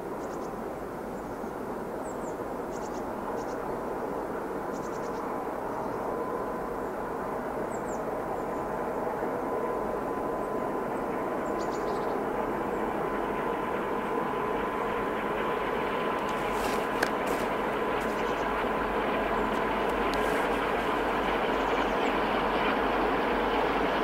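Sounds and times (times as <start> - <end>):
distant diesel locomotive drone: 0.0 - 24.0.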